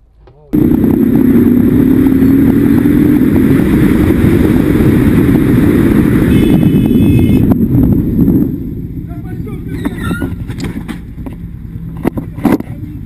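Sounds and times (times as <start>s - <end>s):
motorcycle engine running: 0.6s - 13.0s
wind rumble on microphone: 0.6s - 13.0s.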